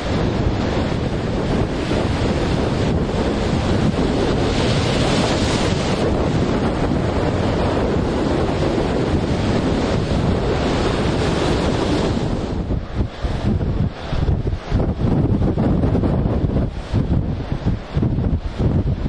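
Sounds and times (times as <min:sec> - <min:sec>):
rough sea breaking: 0:00.0 - 0:19.0
wind buffeting microphone: 0:00.0 - 0:19.0.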